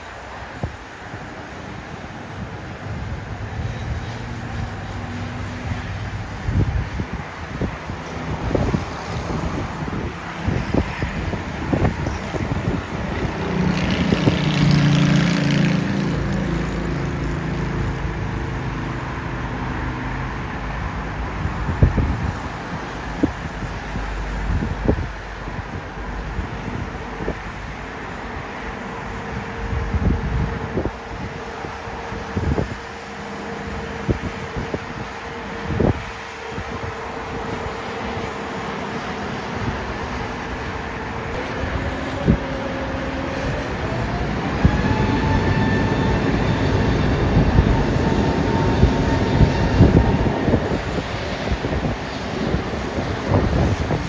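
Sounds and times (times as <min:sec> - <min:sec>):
distant jet engines rumbling: 0:00.0 - 0:54.0
wind thumping on microphone: 0:02.3 - 0:18.4, 0:20.8 - 0:27.9, 0:29.1 - 0:54.0.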